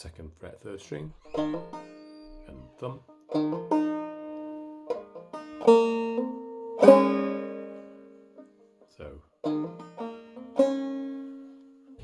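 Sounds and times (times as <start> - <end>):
banjo plucked notes: 1.0 - 12.0.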